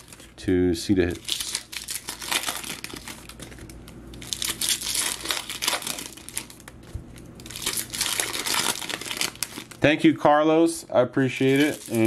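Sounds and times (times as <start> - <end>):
foil wrapper tearing and crinkling: 0.0 - 0.4, 1.0 - 9.8, 11.4 - 12.0.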